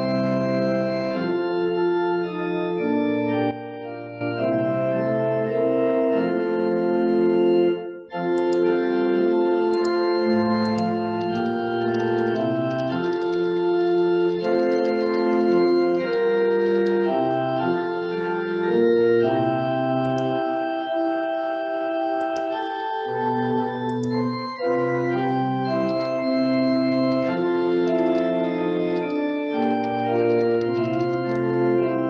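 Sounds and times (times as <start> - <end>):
church organ chords: 0.0 - 32.0.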